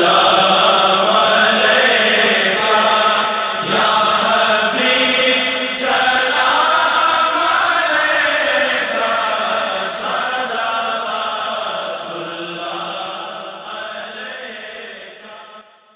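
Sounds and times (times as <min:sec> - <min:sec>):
voices chanting long notes: 0:00.0 - 0:15.8.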